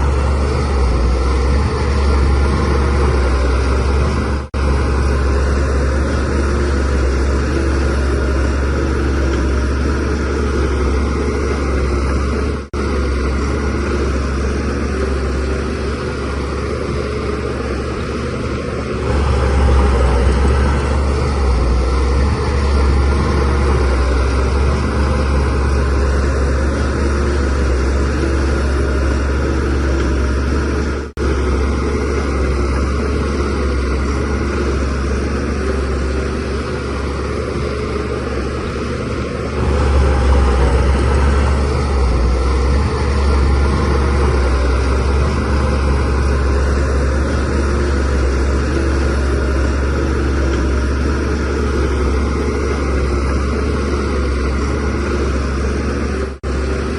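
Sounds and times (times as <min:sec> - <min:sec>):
bulldozer diesel engine droning: 0:00.0 - 0:56.9.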